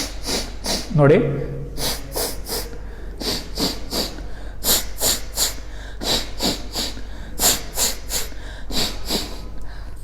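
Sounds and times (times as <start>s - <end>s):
sharp nasal exhalations: 0.0s - 1.0s, 1.7s - 9.6s.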